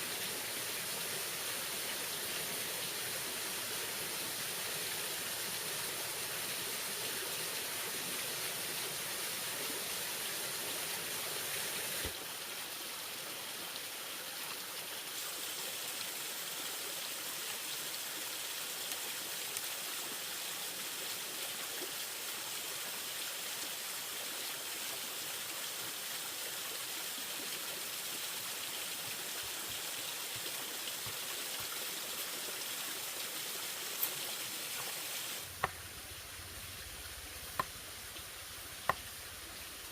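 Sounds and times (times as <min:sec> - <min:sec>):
flowing stream water: 0:00.0 - 0:39.9.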